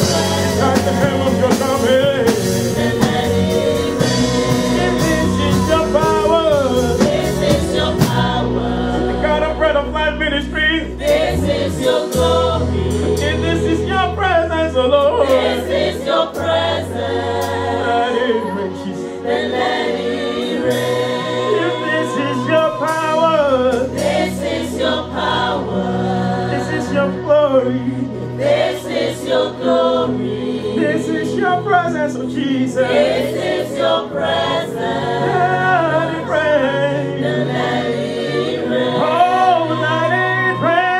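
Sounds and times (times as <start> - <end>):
sustained low chords: 0.0 - 33.2
group singing praise song: 0.0 - 40.9.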